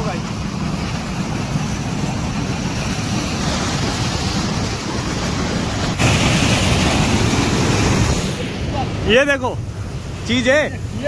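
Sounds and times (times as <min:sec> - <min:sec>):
water rushing through a channel: 0:00.0 - 0:11.0.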